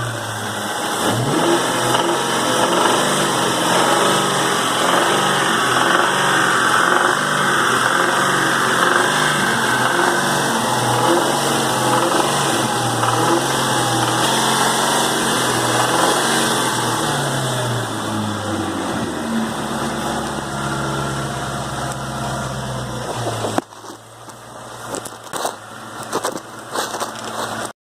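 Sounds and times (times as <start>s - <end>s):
car engine revving and idling: 0.0s - 27.7s.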